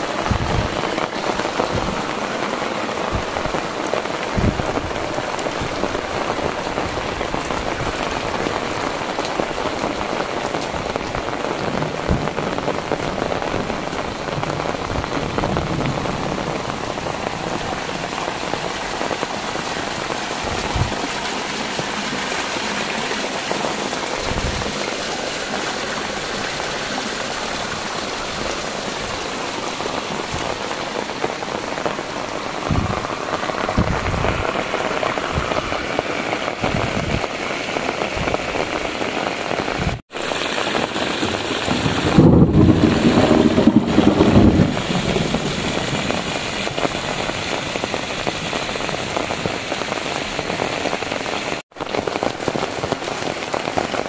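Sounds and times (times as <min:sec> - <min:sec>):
heavy rain falling: 0:00.0 - 0:54.0
water gushing from drain pipe: 0:00.0 - 0:54.0.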